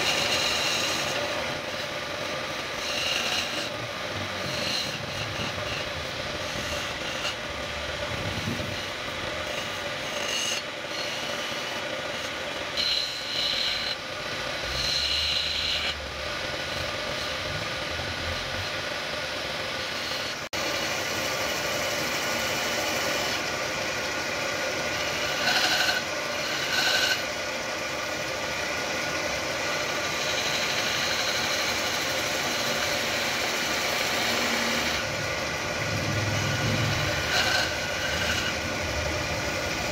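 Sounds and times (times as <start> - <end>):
chisel scraping spinning wood: 0.0 - 39.9
wood lathe motor running: 0.0 - 39.9.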